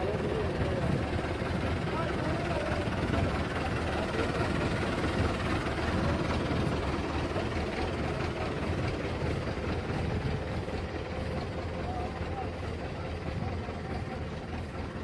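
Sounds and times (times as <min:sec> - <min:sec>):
tractor diesel engine rumbling: 0:00.0 - 0:15.0.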